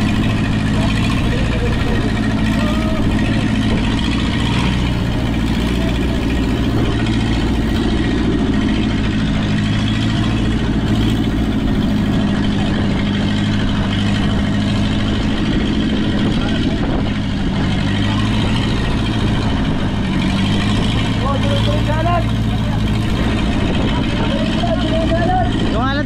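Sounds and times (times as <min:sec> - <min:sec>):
boat diesel engine running: 0:00.0 - 0:26.0.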